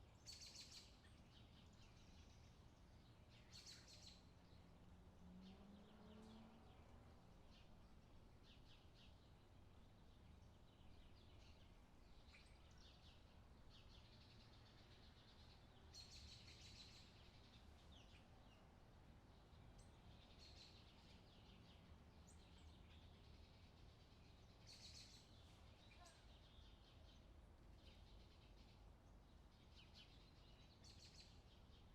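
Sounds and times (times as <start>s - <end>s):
songbirds chirping: 0.0s - 31.9s.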